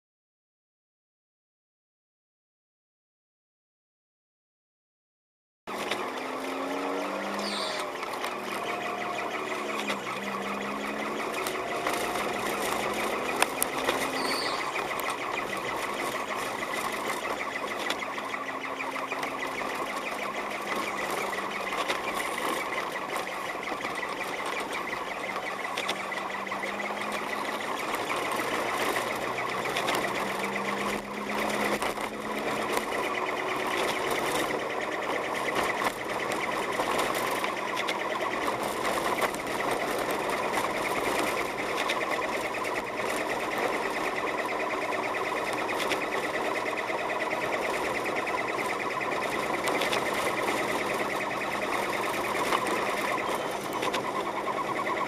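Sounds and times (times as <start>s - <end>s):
car driving on snowy road: 5.7s - 55.0s
low engine hum: 5.7s - 55.0s.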